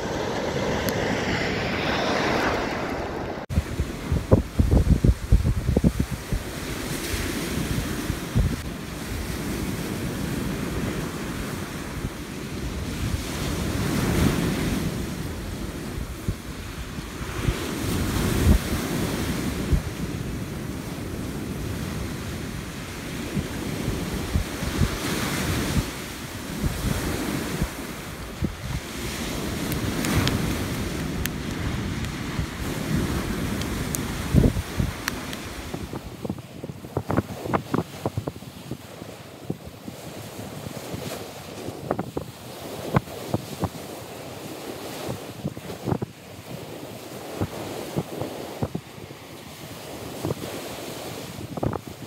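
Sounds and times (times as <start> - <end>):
surf breaking on beach: 0.0 - 12.0, 12.7 - 52.0
wind buffeting microphone: 0.0 - 52.0.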